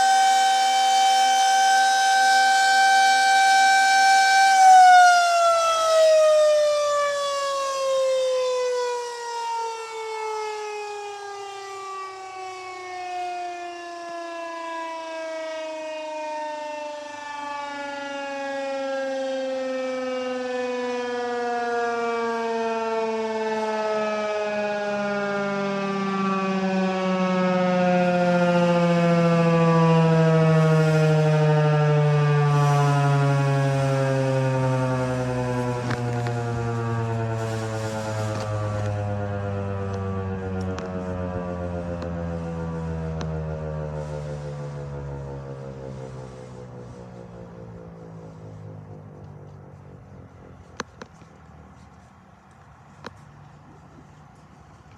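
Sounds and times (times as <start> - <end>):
tornado siren winding down: 0.0 - 54.9.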